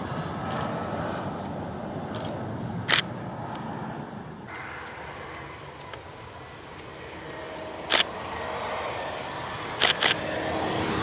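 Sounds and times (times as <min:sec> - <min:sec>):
distant airliner rumbling: 0:00.0 - 0:11.0.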